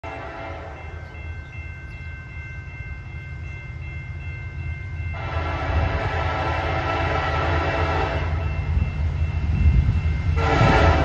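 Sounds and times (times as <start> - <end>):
crossing bell ringing: 0.0 - 11.0
train rushing past: 0.0 - 11.0.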